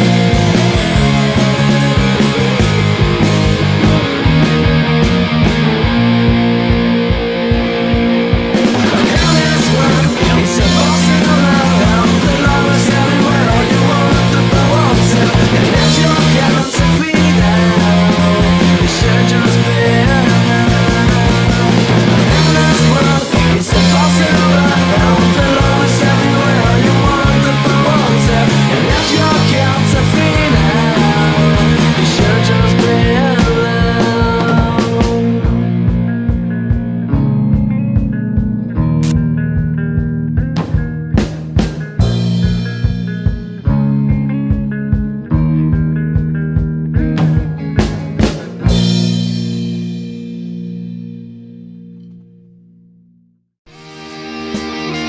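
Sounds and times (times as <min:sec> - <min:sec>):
steady drum beat: 0:00.0 - 0:50.9
rock music: 0:00.0 - 0:53.0, 0:53.6 - 0:55.0
electric guitar: 0:00.0 - 0:55.0.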